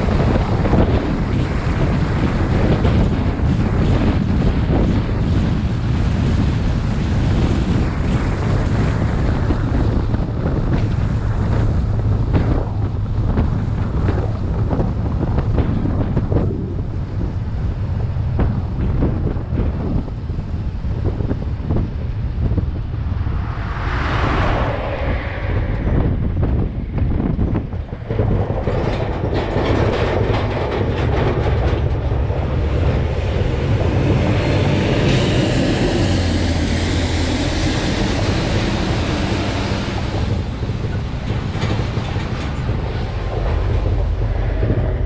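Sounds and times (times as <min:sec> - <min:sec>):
truck and tyres droning on road: 0:00.0 - 0:45.0
wind buffeting microphone: 0:00.0 - 0:45.0.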